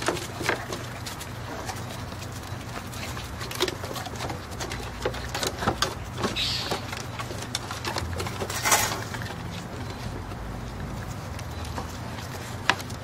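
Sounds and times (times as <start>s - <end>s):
puppy claws clattering on wood: 0.0s - 13.0s.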